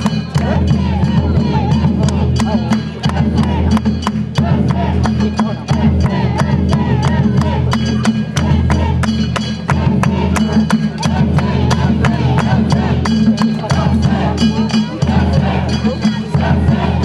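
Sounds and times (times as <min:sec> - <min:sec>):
drum beat: 0:00.0 - 0:17.0.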